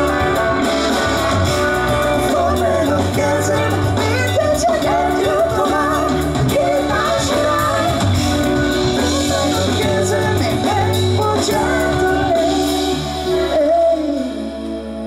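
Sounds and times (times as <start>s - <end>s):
live band playing: 0.0s - 15.0s
woman singing: 1.6s - 15.0s.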